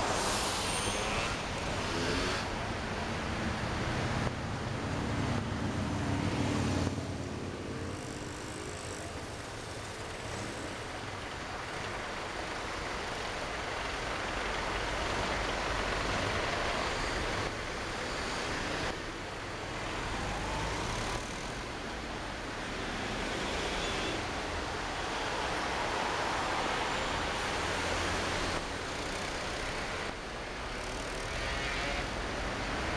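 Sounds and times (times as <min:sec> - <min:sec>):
engine and road noise: 0:00.0 - 0:32.9.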